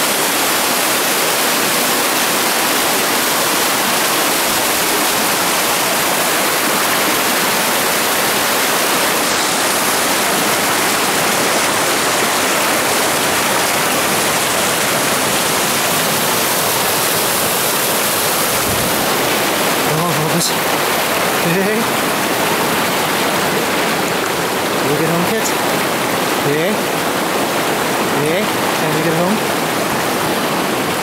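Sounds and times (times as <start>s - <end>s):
river water rushing through rapids: 0.0s - 31.0s.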